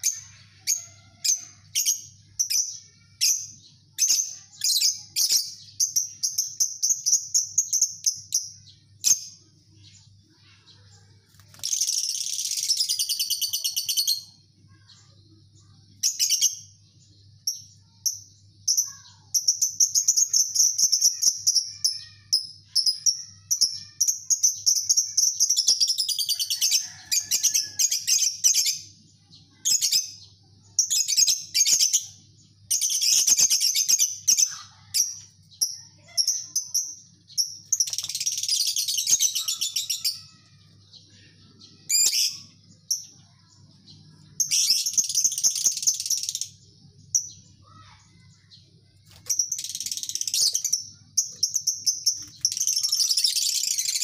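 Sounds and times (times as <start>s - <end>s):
lovebirds chattering in trills: 0.0s - 54.0s.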